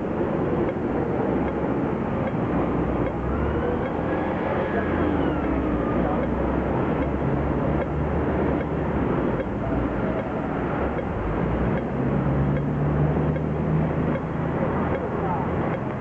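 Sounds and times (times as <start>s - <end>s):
pedestrian crossing signal ticks: 0.0s - 4.1s, 4.7s - 16.0s
car engines passing: 0.0s - 16.0s
low engine hum: 0.0s - 16.0s.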